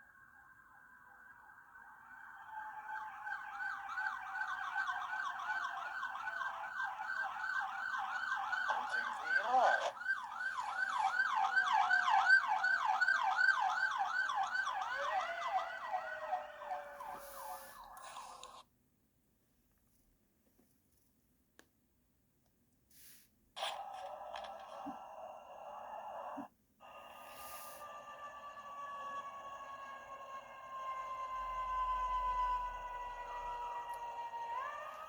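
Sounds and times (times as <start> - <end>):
emergency vehicle siren: 0.0 - 18.2, 23.6 - 35.0.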